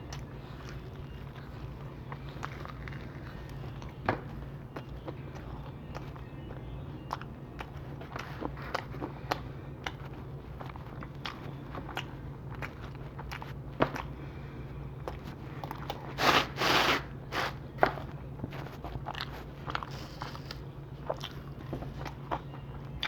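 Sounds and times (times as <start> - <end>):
chewing pizza: 0.0 - 23.0.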